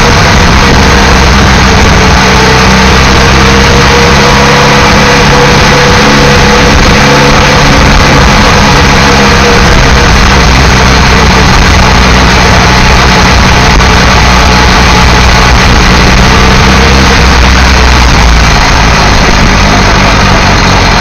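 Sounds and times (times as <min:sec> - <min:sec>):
continuous rushing noise: 0:00.0 - 0:21.0
motorcycle engine running: 0:00.0 - 0:21.0.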